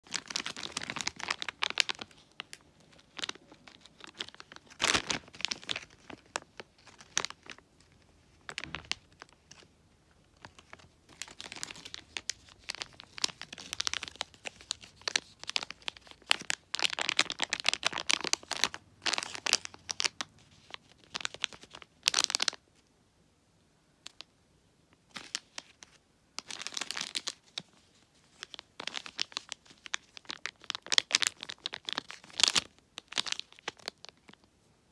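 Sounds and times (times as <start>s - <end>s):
plastic sachets crinkling: 0.0s - 22.6s, 25.1s - 34.5s.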